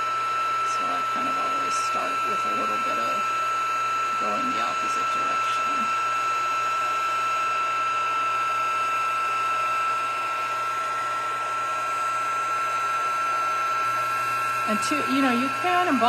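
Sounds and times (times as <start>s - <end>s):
heat tool whining and blowing air: 0.0s - 16.0s.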